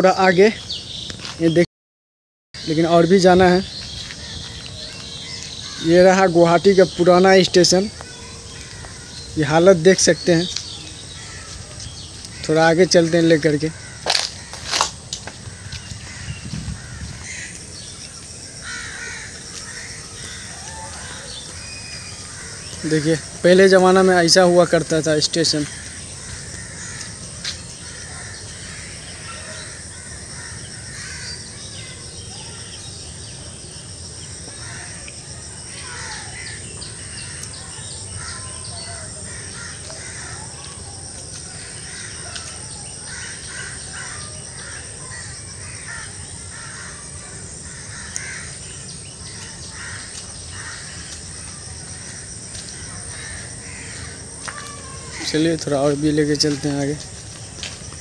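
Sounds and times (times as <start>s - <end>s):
birds calling: 0.0s - 1.7s, 2.6s - 58.0s
crows cawing: 4.0s - 32.6s, 34.4s - 57.8s.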